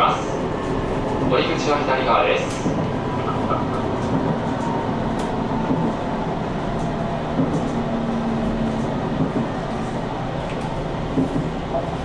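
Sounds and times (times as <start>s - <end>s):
train engine and wheels rumbling: 0.0s - 12.0s.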